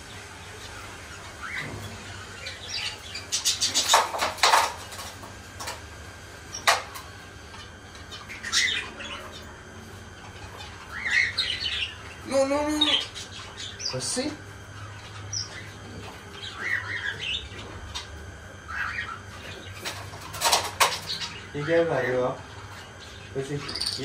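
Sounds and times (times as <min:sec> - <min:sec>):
birds chirping and squawking: 0:00.0 - 0:24.0.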